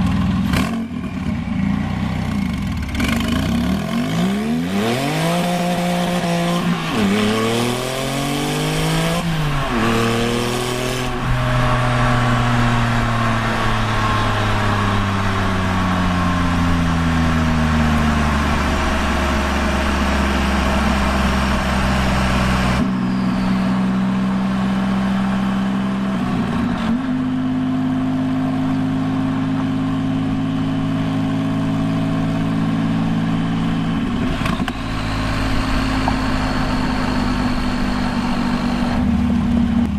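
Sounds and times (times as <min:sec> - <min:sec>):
sports car engine revving: 0:02.2 - 0:39.9.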